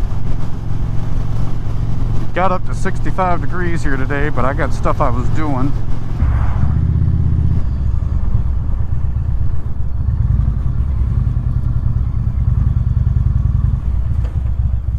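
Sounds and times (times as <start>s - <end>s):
motorcycle engine at low revs: 0.0s - 6.2s, 6.8s - 14.9s.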